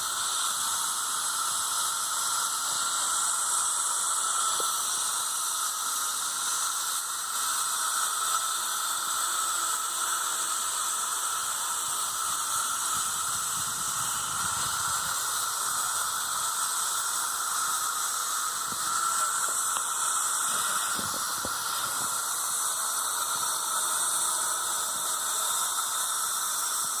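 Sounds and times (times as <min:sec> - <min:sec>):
grinding machinery hiss and whine: 0:00.0 - 0:27.0.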